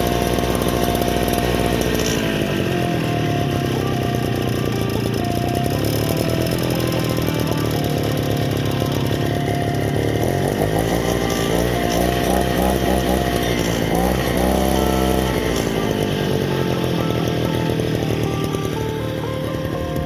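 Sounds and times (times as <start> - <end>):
brush cutter engine revving: 0.0 - 20.0
music playing: 0.0 - 20.0.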